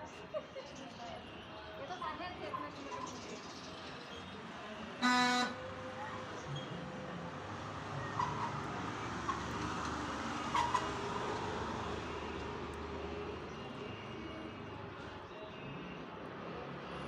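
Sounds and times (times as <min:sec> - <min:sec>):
vehicle traffic rumble: 0:00.0 - 0:17.0.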